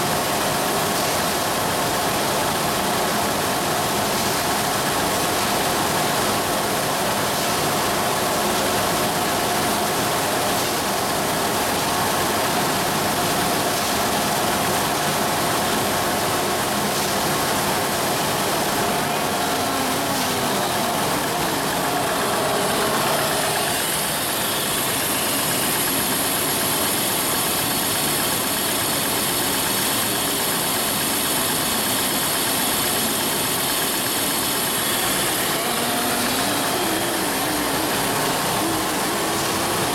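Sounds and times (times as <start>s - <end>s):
labeling machine running: 0.0s - 39.9s
high thin whine: 4.0s - 39.9s.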